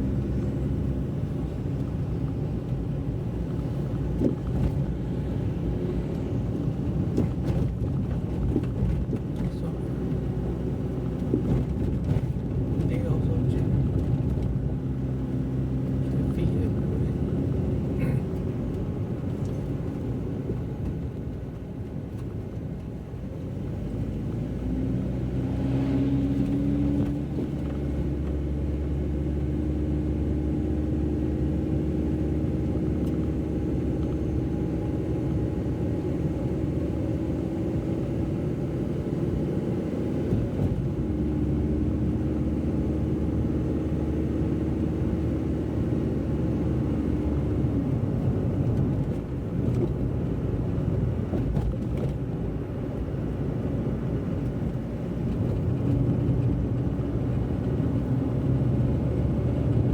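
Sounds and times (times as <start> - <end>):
car engine hum: 0.0 - 59.9
road rumble: 0.0 - 59.9.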